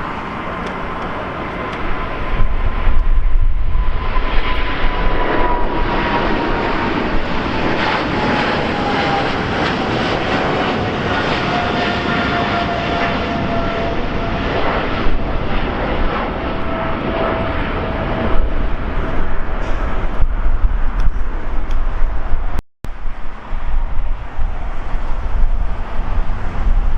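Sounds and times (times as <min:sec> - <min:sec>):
jet airliner passing: 0:00.0 - 0:26.9.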